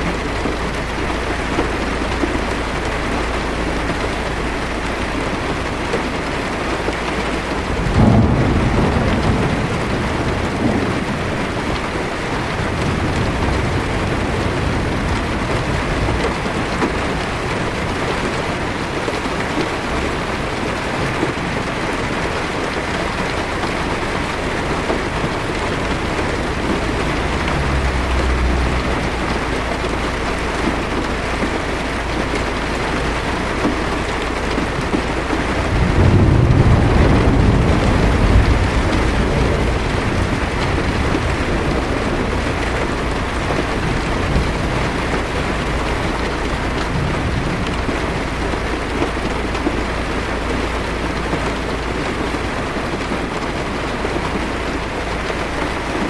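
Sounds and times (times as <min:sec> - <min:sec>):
heavy rain on car roof: 0:00.0 - 0:56.0
low thunder rumble: 0:00.0 - 0:56.0.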